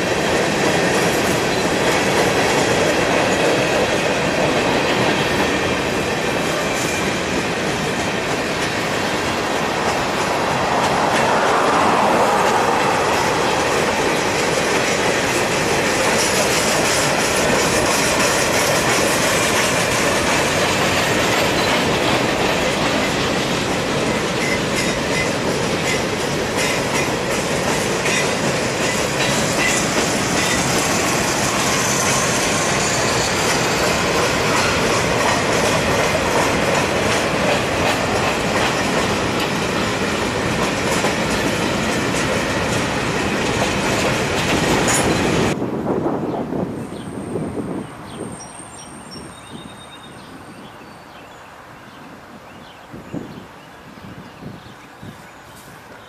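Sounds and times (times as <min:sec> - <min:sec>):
wheels clicking over rail joints: 0:00.0 - 0:45.6
freight train rumble and rattle: 0:00.0 - 0:50.7.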